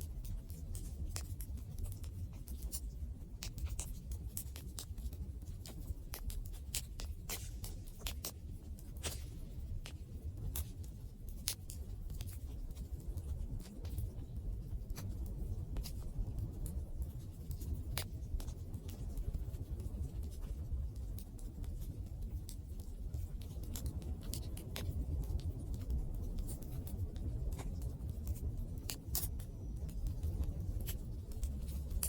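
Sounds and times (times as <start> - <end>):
low fire rumble: 0.0 - 32.0.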